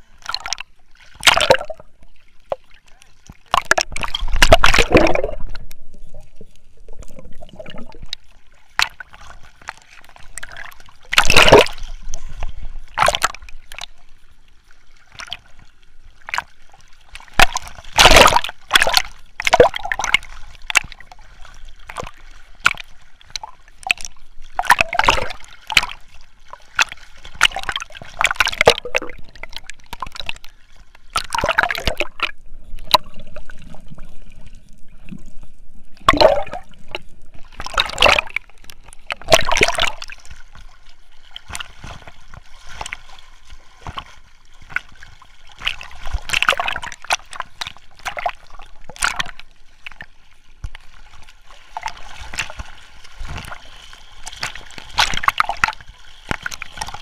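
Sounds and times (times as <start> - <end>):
sea water splashing over camera: 0.0 - 57.0.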